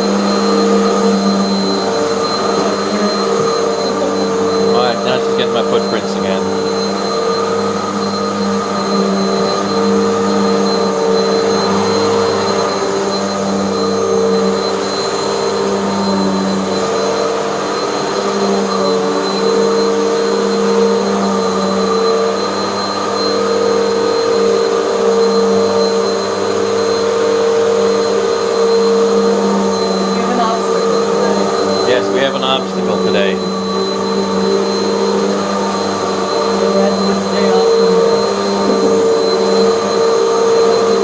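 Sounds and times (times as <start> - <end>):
vacuum cleaner running on carpet: 0.0 - 41.0.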